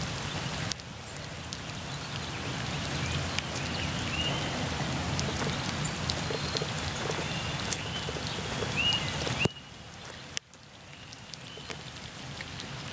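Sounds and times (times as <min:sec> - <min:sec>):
rain falling on gravel and water: 0:00.0 - 0:12.9.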